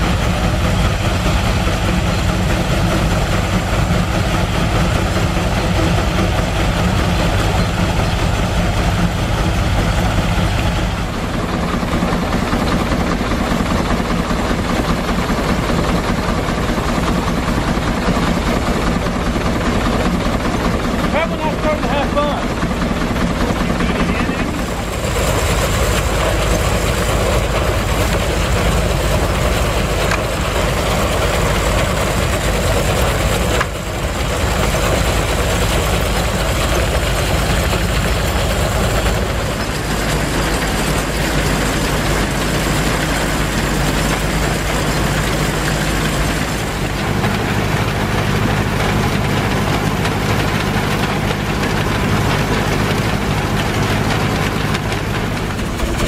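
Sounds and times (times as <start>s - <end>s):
threshing machine running: 0.0s - 56.0s.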